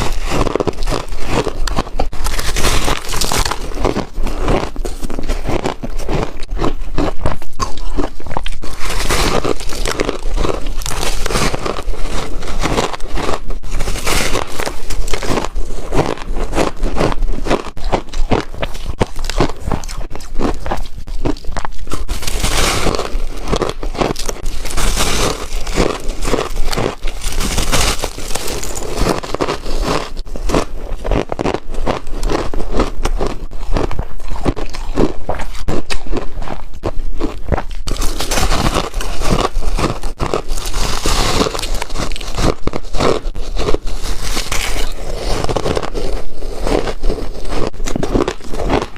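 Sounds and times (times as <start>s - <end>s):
ice crunching between teeth: 0.0s - 48.9s.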